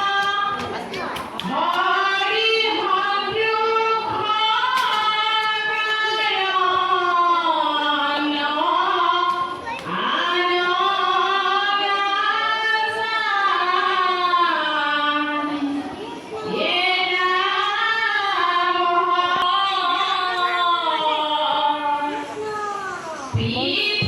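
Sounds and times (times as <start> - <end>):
voices singing a slow hymn: 1.4 - 22.4.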